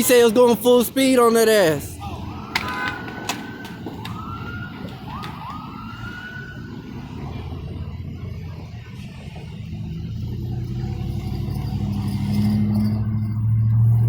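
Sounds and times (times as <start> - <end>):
traffic rumble: 0.0 - 14.0
emergency siren wailing: 2.1 - 14.0.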